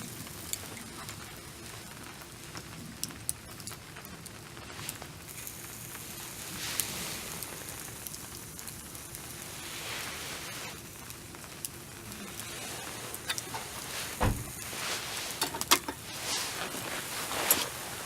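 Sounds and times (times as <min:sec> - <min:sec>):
fire crackling and hissing: 0:00.0 - 0:18.0.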